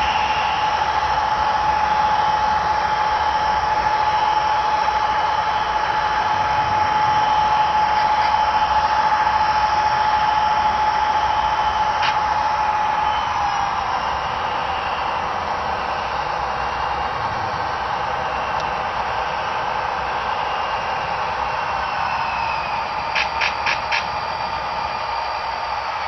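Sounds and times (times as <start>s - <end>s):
model train hiss and whine: 0.0s - 26.0s.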